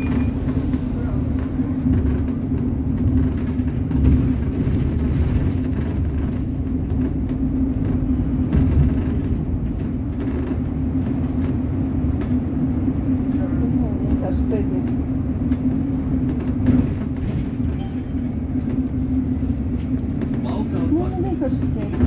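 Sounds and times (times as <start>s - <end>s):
bus drivetrain and road rumble: 0.0s - 22.0s.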